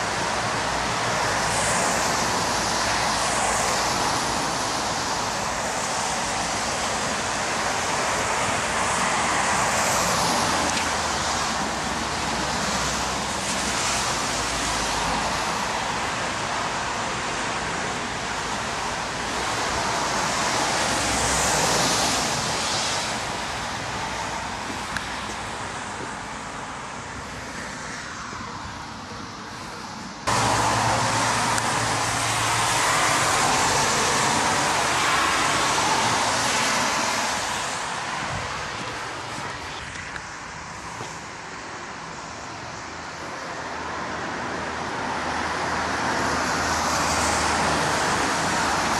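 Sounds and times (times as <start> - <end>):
tyre hiss on wet road: 0.0 - 48.9.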